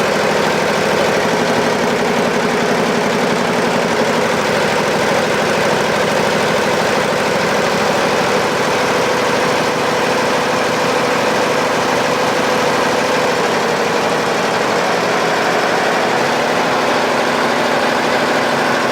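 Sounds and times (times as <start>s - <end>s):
embroidery machine stitching: 0.0s - 18.9s.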